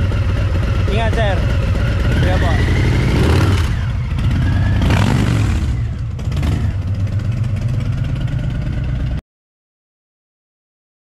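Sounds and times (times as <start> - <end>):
motorcycle engine pulling away: 0.0 - 9.2.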